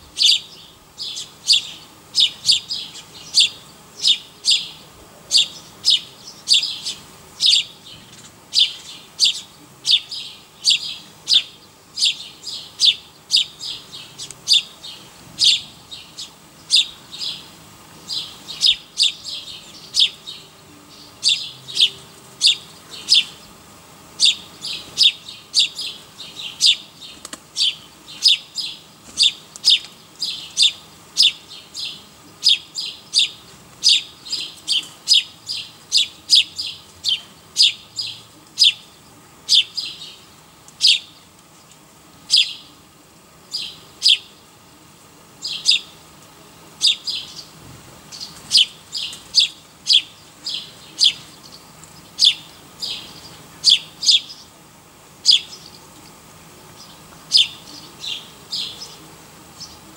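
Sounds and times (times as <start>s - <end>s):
small bird chirping: 0.2s - 23.6s, 24.2s - 42.7s, 43.4s - 44.5s, 45.4s - 46.0s, 46.8s - 54.6s, 55.2s - 56.2s, 56.8s - 59.8s.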